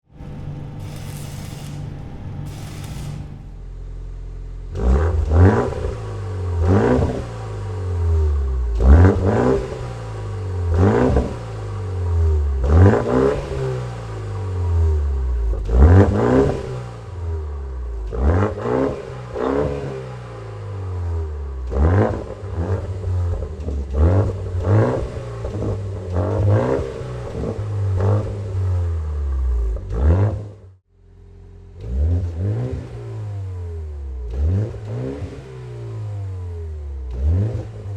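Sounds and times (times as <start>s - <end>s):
car engine revving: 2.4s - 37.9s.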